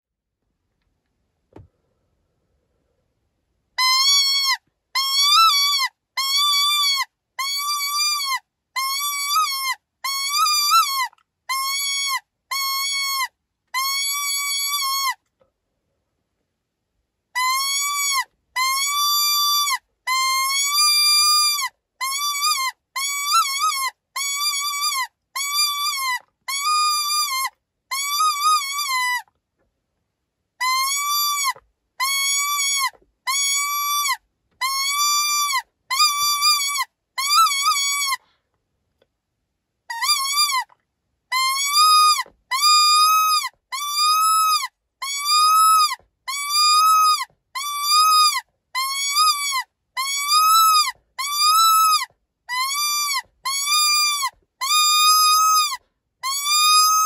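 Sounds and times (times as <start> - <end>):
animal distress cries: 3.8 - 15.2, 17.4 - 29.3, 30.6 - 38.2, 39.9 - 40.7, 41.3 - 57.0.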